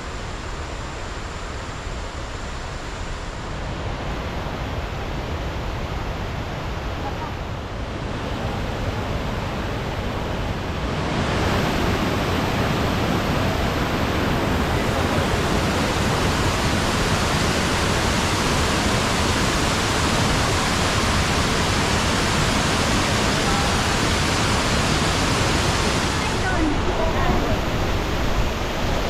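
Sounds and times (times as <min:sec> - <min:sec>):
waterfall roar: 0:00.0 - 0:29.0.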